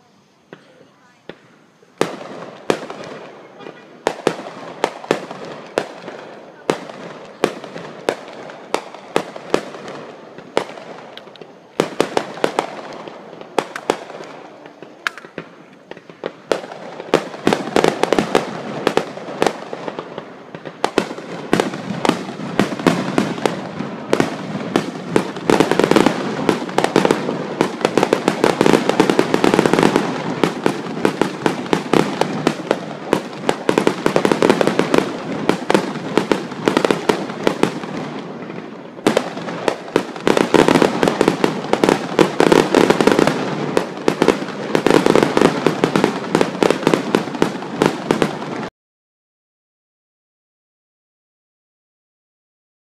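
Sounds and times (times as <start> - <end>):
fireworks crackling: 0.0 - 48.7
fireworks shells bursting: 0.0 - 48.7.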